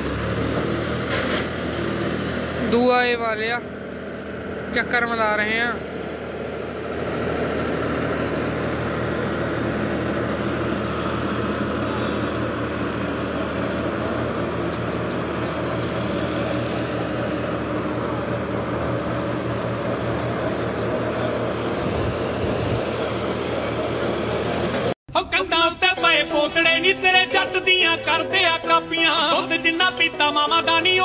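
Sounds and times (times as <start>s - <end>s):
tractor diesel engine droning: 0.0s - 31.0s.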